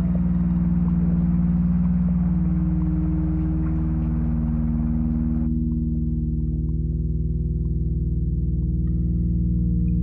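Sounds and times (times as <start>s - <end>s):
pulsing synthesizer drone: 0.0s - 10.0s.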